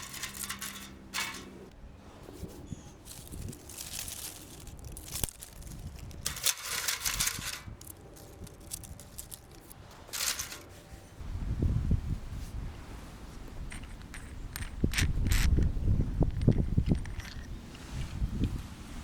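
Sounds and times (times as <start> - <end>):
rustling and crinkling: 0.0 - 11.2, 13.3 - 19.0.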